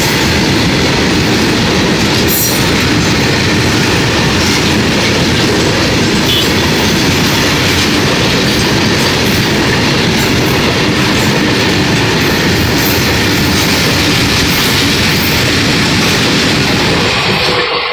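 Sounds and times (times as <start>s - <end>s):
steel wheels on rails: 0.0s - 17.9s.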